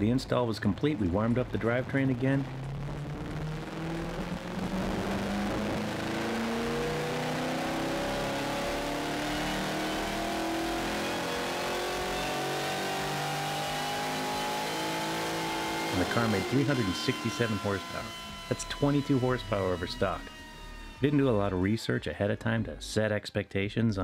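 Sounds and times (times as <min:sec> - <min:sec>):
engine revving at full throttle: 0:00.0 - 0:21.6.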